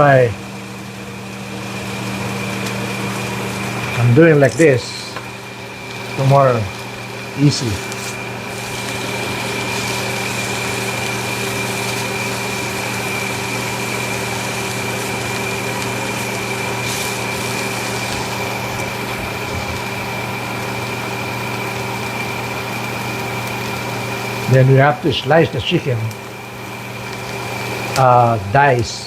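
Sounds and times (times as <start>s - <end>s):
electric fan motor humming: 0.0s - 29.0s.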